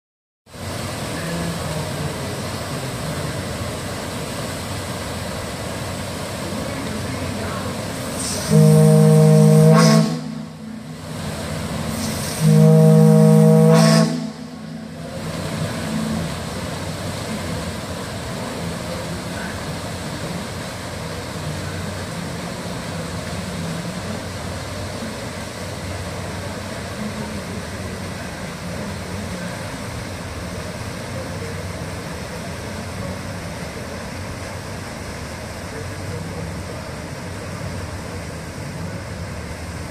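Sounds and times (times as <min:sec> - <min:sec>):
paddlewheel churning water: 0:00.5 - 0:39.9
steamboat machinery hum: 0:00.5 - 0:39.9.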